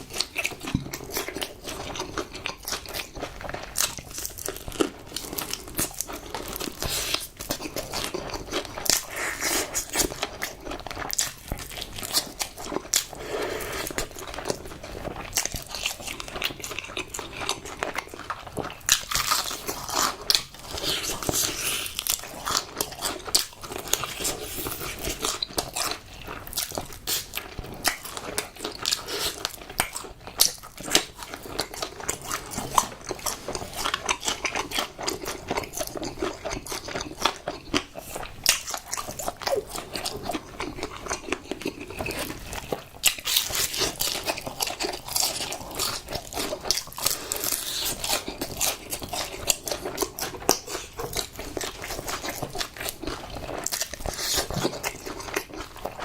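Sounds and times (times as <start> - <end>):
crunching and chewing fried chicken: 0.0 - 56.0.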